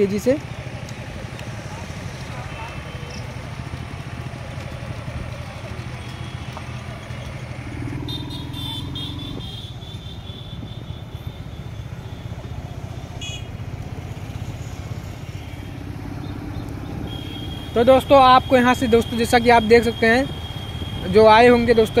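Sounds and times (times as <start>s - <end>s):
street traffic: 0.0s - 22.0s
vehicle engine running: 0.0s - 22.0s.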